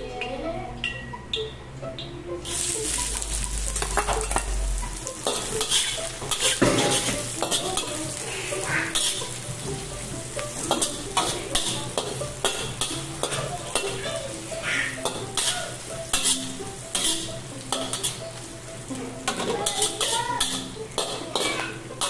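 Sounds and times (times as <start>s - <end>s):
garlic and onion sizzling in oil: 2.4s - 22.0s
metal spatula scraping wok: 2.4s - 22.0s.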